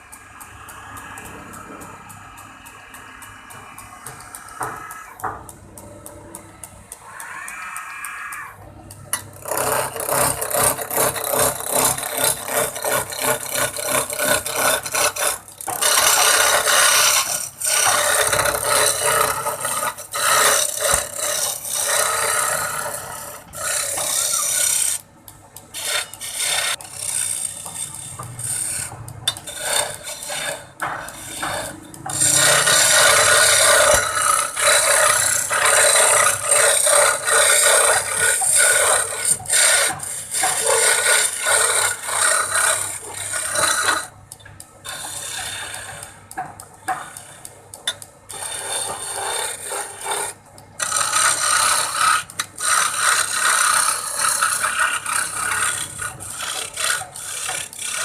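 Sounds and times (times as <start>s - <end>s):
rasp scraping wood: 3.4s - 5.4s, 9.2s - 44.2s, 44.8s - 58.0s.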